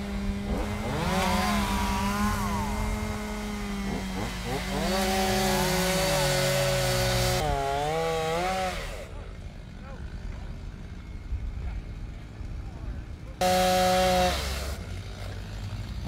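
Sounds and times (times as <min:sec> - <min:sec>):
chainsaw engines revving: 0:00.0 - 0:16.0
engine at steady pitch: 0:00.0 - 0:16.0.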